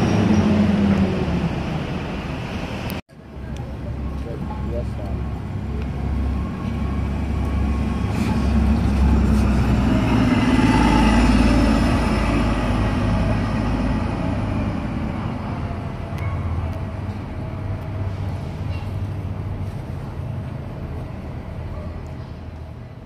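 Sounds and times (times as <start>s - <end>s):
bus driving past: 0.0s - 23.0s.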